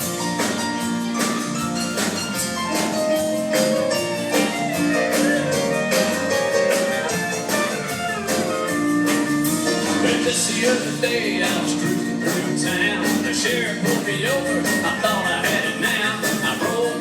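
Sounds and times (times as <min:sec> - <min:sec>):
country band instrumental: 0:00.0 - 0:17.0
steady drum beat: 0:00.0 - 0:17.0.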